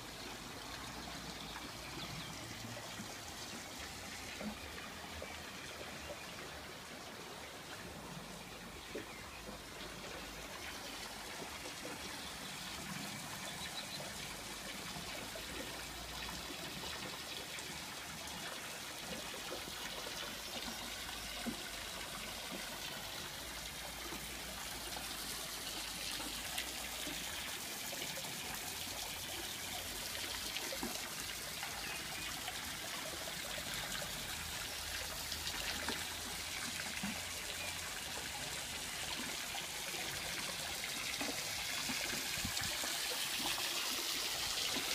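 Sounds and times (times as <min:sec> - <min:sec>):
water trickling and splashing: 0:00.0 - 0:44.9.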